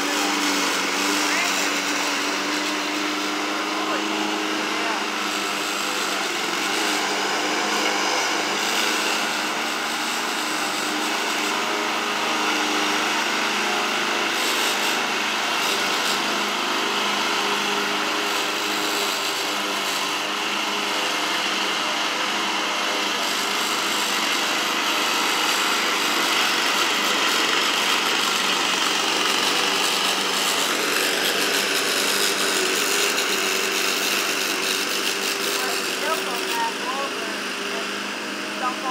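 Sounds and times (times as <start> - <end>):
lawn mower running: 0.0 - 38.9.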